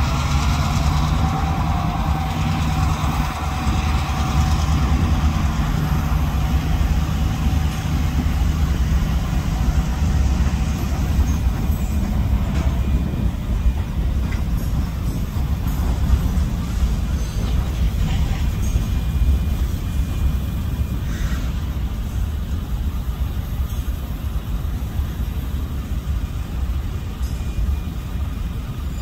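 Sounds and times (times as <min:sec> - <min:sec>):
locomotive engine rumbling: 0:00.0 - 0:29.0.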